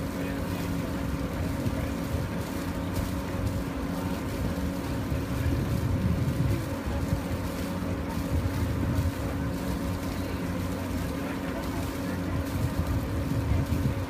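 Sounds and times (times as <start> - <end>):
boat engine hum: 0.0 - 14.0
wind rumble on microphone: 0.8 - 14.0.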